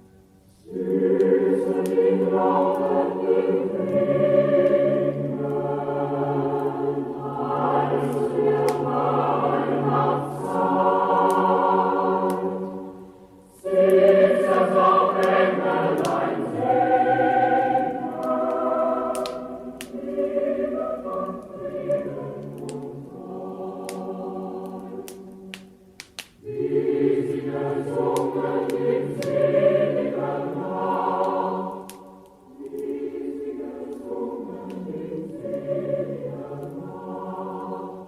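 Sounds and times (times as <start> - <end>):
choir singing a slow song: 0.0 - 38.0
log fire crackling: 0.1 - 38.0.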